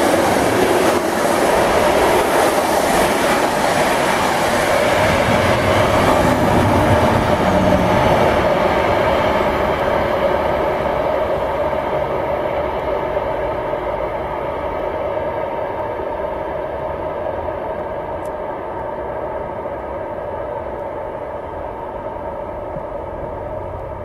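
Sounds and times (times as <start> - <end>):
freight train rumbling on track: 0.0 - 24.0.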